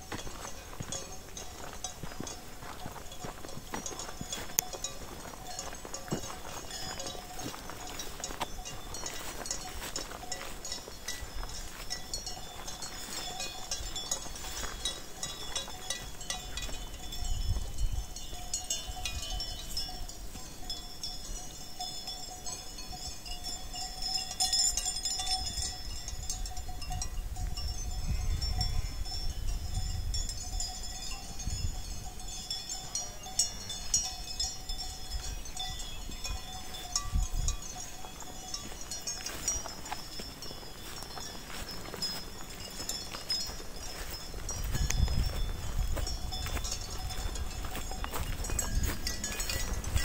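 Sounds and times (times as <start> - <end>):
cowbells clanking: 0.0 - 50.0.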